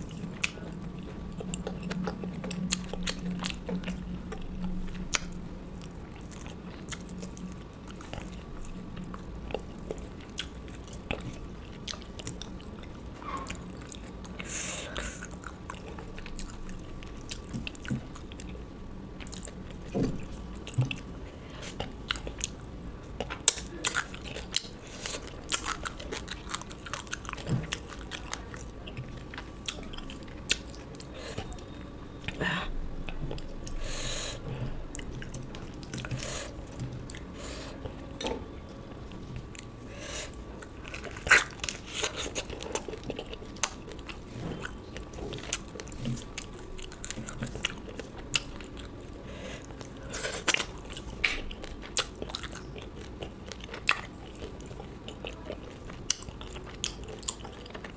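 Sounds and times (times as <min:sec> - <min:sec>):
chewing and crunching: 0:00.0 - 0:32.4, 0:33.0 - 0:57.9.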